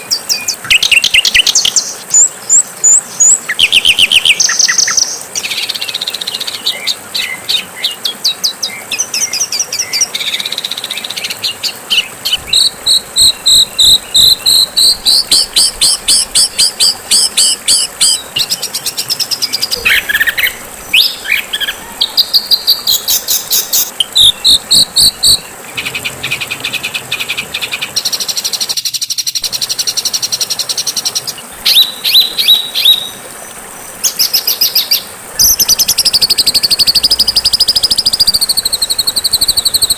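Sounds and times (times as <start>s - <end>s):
songbird singing trills: 0.0s - 33.2s, 34.1s - 39.9s.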